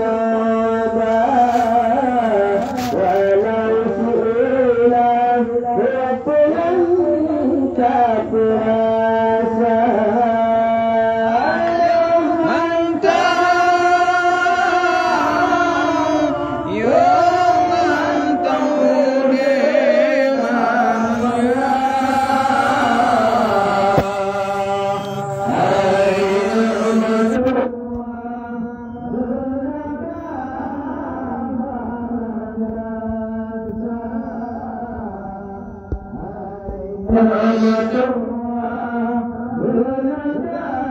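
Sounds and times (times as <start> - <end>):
man singing a chant: 0.0 - 40.9.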